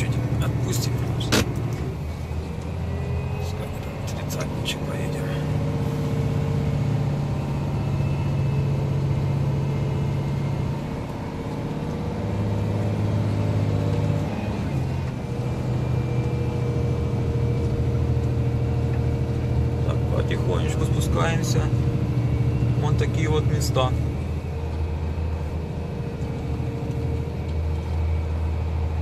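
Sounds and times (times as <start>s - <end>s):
truck engine hum: 0.0s - 29.0s.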